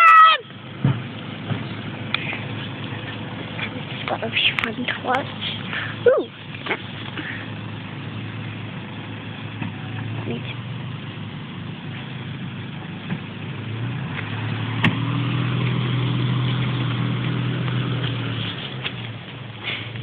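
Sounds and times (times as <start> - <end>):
car engine revving: 0.5 - 20.0.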